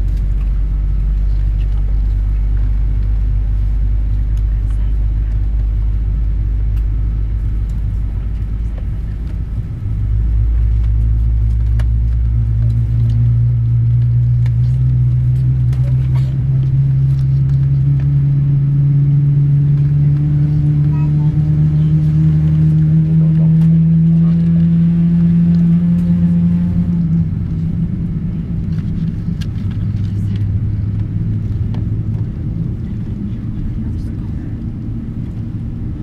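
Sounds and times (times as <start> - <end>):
jet engines rumbling and humming: 0.0 - 36.0.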